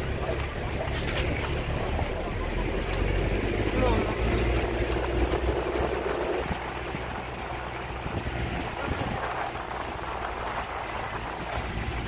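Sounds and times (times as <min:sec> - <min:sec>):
road noise on dirt track: 0:00.0 - 0:12.0
vehicle engine running: 0:00.0 - 0:12.0
wind noise: 0:00.0 - 0:12.0.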